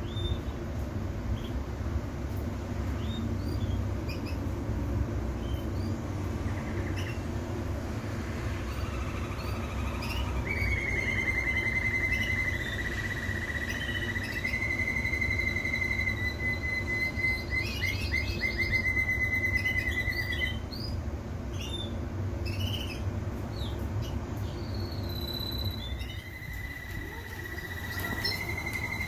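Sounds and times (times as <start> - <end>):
canary singing: 3.0 - 4.5, 5.4 - 29.0.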